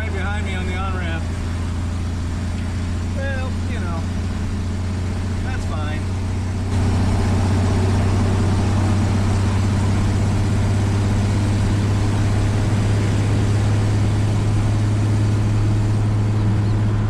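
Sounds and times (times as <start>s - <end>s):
truck engine droning: 0.0s - 17.0s.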